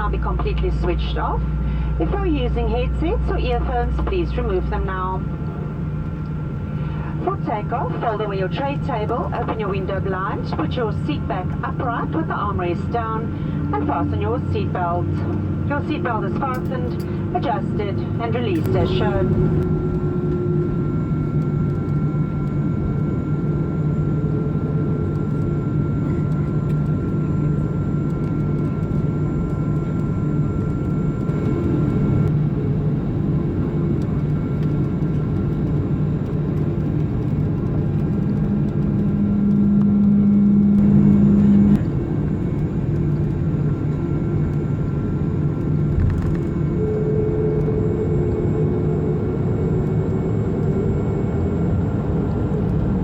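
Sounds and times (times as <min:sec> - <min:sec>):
constant tones: 0:00.0 - 0:53.0
jet engine cabin drone: 0:00.0 - 0:53.0
low hum: 0:00.0 - 0:53.0.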